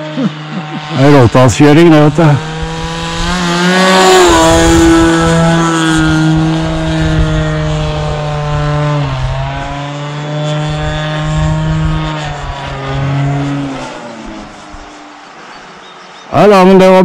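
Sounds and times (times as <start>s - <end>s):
model airplane motor buzzing: 0.0s - 17.0s.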